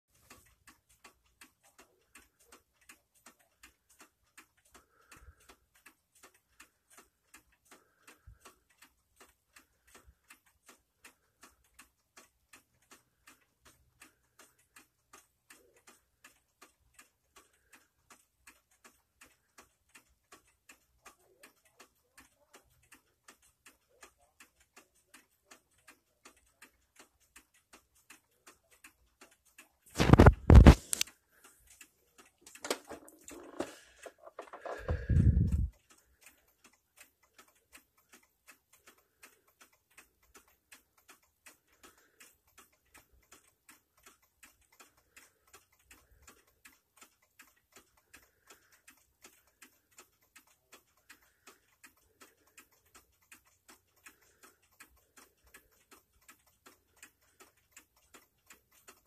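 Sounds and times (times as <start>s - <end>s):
wall clock ticking: 0.1s - 59.0s.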